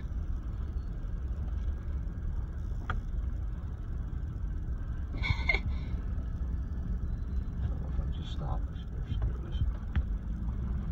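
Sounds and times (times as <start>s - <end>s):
vehicle engine rumble and road noise: 0.0s - 10.9s.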